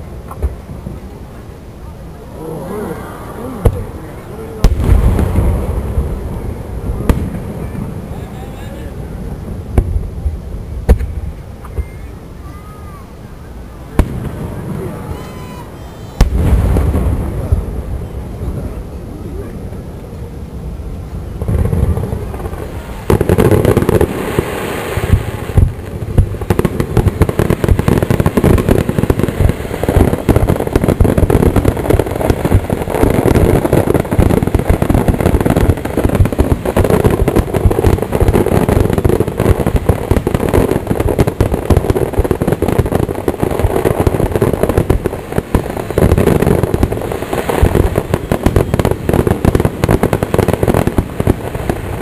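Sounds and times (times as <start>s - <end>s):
fireworks bursting: 0.0s - 52.0s.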